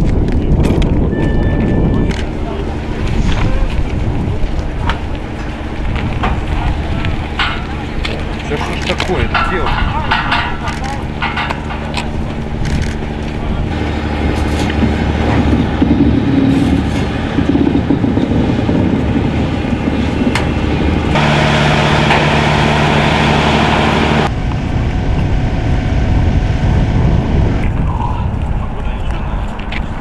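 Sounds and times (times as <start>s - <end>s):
train rumbling on track: 0.0s - 30.0s
diesel locomotive engine drone: 0.1s - 30.0s
higher hum: 1.1s - 29.4s.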